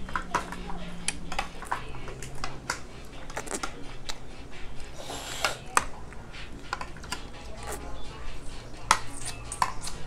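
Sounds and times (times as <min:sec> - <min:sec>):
chewing: 0:00.1 - 0:10.0.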